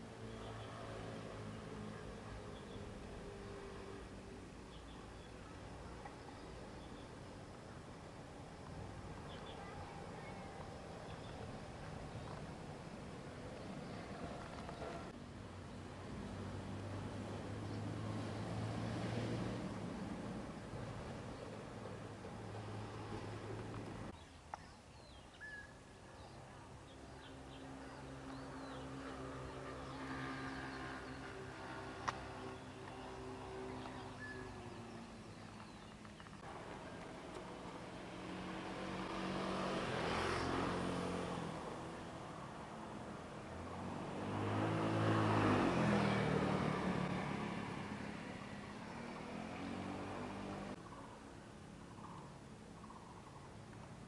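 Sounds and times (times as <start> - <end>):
small birds chirping: 0.0 - 16.8, 20.0 - 42.8, 48.0 - 54.0
vehicle passing by: 0.0 - 24.2, 26.7 - 51.0.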